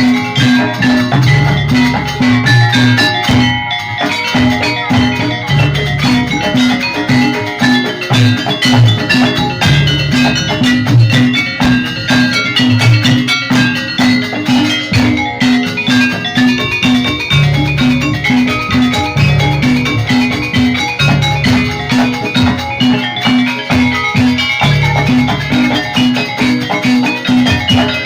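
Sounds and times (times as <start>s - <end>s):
gamelan music: 0.0s - 28.0s.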